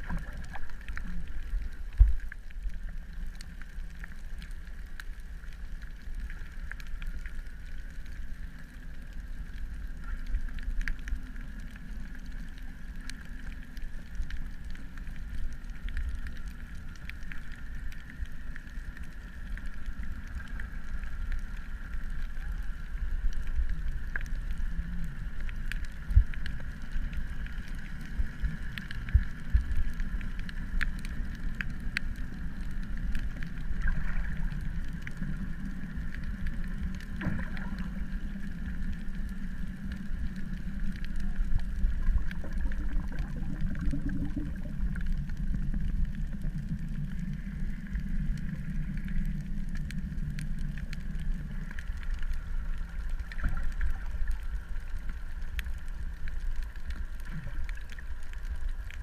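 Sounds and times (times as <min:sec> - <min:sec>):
steady higher hum: 0:00.0 - 0:56.1
clicks and crackles: 0:00.0 - 0:59.0.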